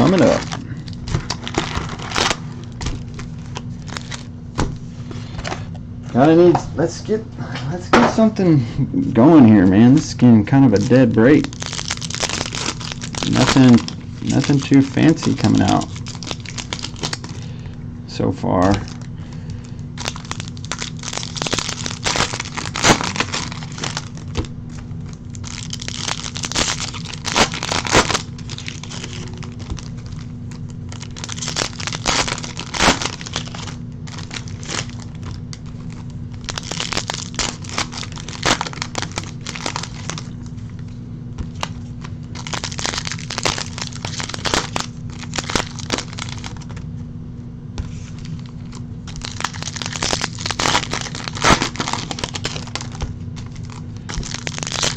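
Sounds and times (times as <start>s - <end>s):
foil wrappers tearing and crinkling: 0.0s - 4.3s, 9.6s - 17.6s, 18.6s - 46.9s, 47.8s - 54.9s
steady low hum: 0.0s - 54.9s.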